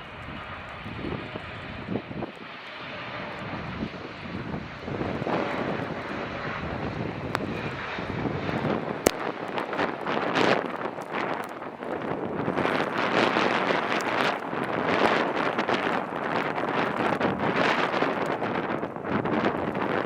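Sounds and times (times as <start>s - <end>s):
jet engines rushing: 0.0s - 20.0s
wind buffeting microphone: 0.0s - 20.0s.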